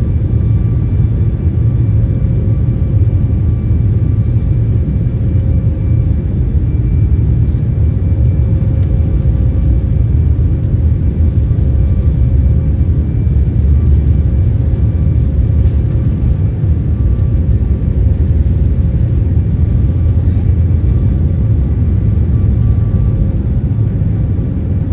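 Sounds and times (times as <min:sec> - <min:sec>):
jet engine rumble: 0:00.0 - 0:24.9.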